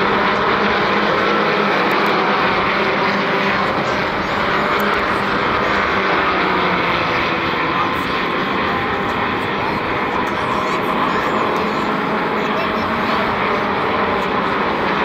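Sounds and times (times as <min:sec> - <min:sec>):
race car engine running: 0:00.0 - 0:15.0.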